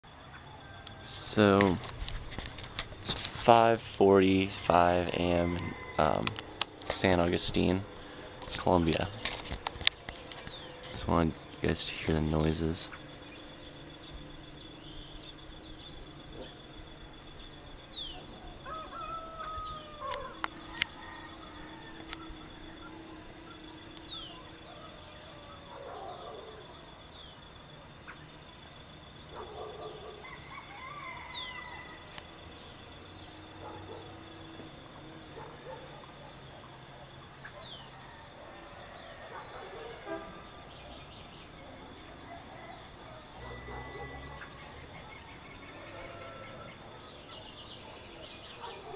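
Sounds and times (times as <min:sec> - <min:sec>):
birds trilling songs: 0:00.0 - 0:48.9
high-pitched insect drone: 0:00.1 - 0:38.9, 0:43.2 - 0:48.5
low bird calls: 0:00.3 - 0:48.9.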